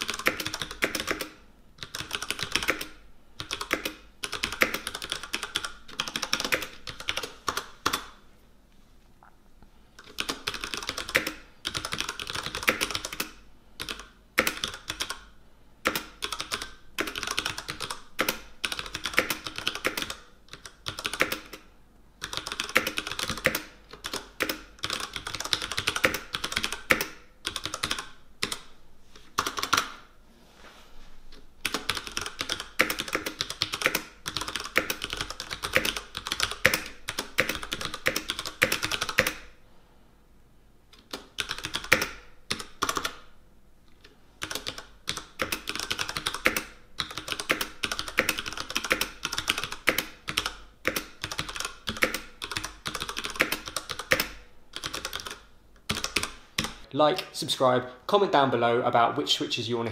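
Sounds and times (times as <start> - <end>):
mechanical keyboard typing: 0.0 - 8.2, 10.0 - 28.7, 29.3 - 30.1, 31.6 - 39.5, 40.9 - 43.3, 44.4 - 56.9.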